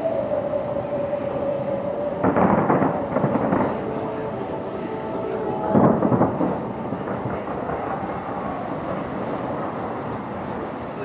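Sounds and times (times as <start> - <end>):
fireworks booming and rumbling: 0.0 - 11.0.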